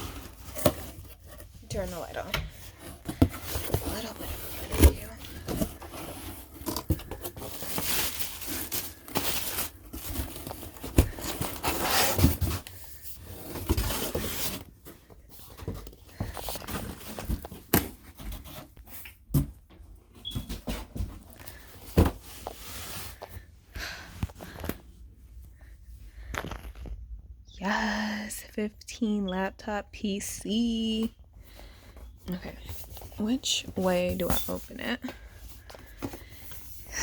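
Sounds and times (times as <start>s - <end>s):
rustling and scraping: 0.0s - 27.1s, 30.8s - 37.0s.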